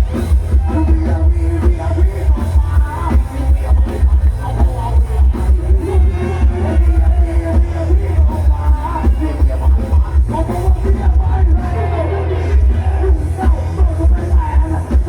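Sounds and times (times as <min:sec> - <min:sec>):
loud music with heavy bass beat: 0:00.0 - 0:15.0.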